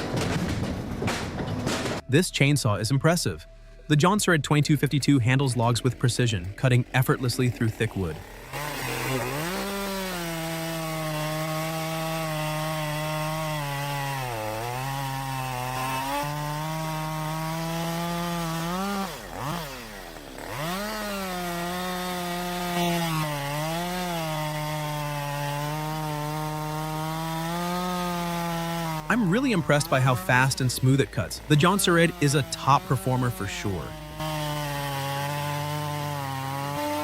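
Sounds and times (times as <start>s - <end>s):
chainsaw cutting through log: 5.0s - 37.0s.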